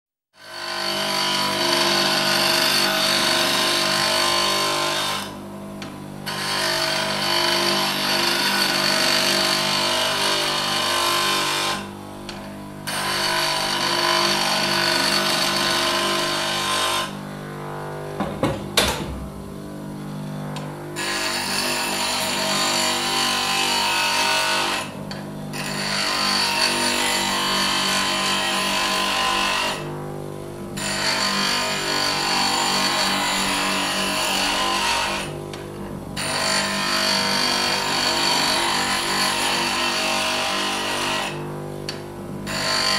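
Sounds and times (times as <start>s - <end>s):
tool grinding on wheel: 0.4s - 5.3s, 6.2s - 11.9s, 12.8s - 17.2s, 21.0s - 29.9s, 30.8s - 35.4s, 36.2s - 42.9s.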